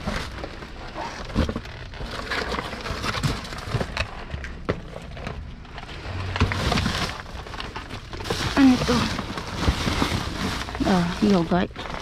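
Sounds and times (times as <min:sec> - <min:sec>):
plastic bags and cardboard rustling: 0:00.0 - 0:12.0.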